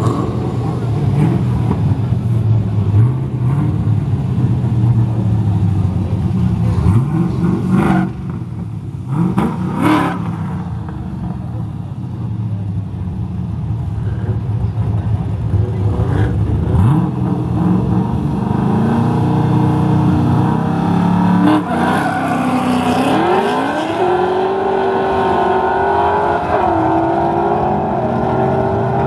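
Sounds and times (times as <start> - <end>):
cars accelerating away: 0.0 - 11.6, 14.8 - 29.0
drag car engines revving: 0.0 - 29.0.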